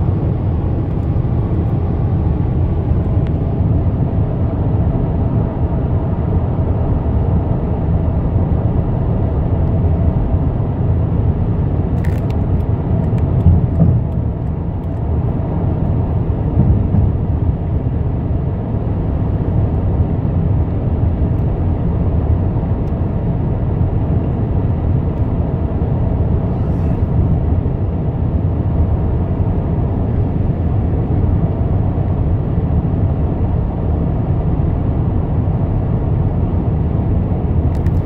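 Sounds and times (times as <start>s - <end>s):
road and engine noise in car: 0.0s - 38.0s.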